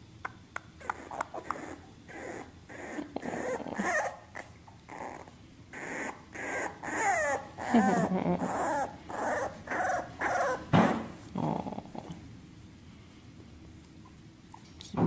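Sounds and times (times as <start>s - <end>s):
puppy whimpering and snuffling: 0.6s - 12.2s, 13.8s - 15.0s
puppy whining: 0.6s - 12.2s, 14.0s - 14.9s.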